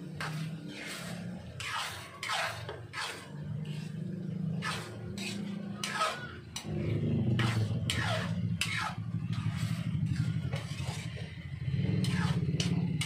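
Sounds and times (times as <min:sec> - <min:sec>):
utensil scraping frying pan: 0:00.0 - 0:13.0.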